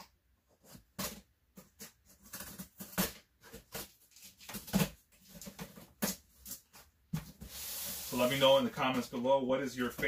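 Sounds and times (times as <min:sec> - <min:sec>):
cardboard box scraping and rustling: 0:00.6 - 0:08.8.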